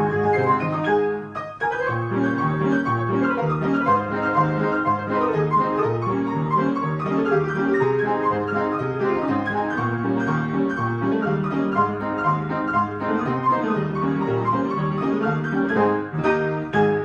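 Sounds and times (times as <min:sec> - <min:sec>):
player piano playing a march: 0:00.0 - 0:17.0.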